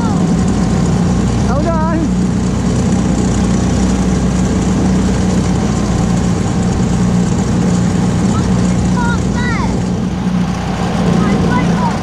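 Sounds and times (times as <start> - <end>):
outboard motor humming: 0.0 - 12.0.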